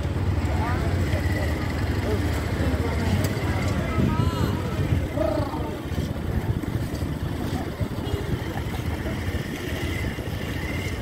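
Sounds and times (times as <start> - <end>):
motor vehicles rumbling: 0.0 - 11.0.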